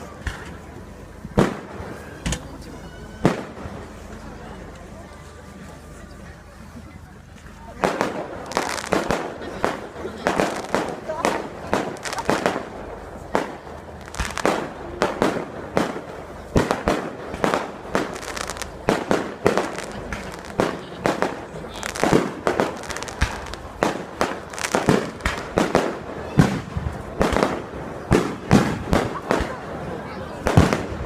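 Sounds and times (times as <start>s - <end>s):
fireworks bangs: 0.0s - 2.6s, 3.2s - 4.2s, 7.7s - 31.0s.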